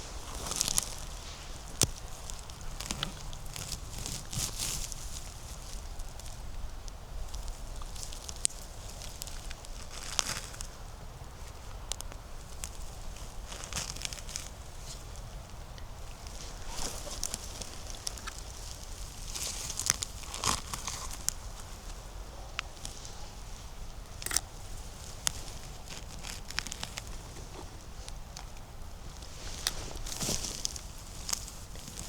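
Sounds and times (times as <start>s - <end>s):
dry leaves crunching underfoot: 0.0s - 32.0s.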